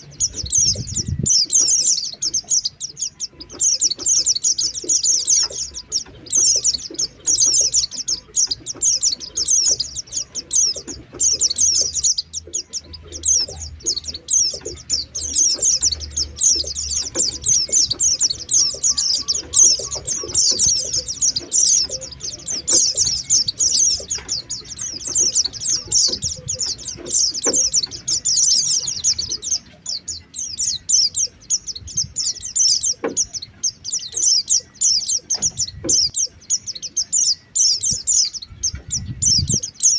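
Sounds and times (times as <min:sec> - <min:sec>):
white-eyes twittering: 0:00.0 - 0:39.9.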